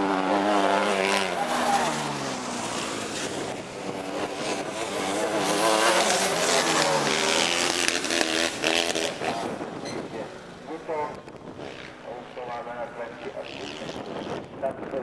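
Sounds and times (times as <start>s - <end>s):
buggy engines revving: 0.0s - 14.6s.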